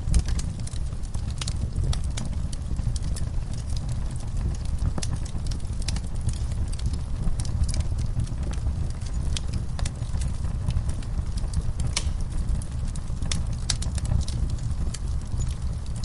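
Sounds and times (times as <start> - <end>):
fireplace crackling and popping: 0.0 - 16.0
low fire rumble: 0.0 - 16.0.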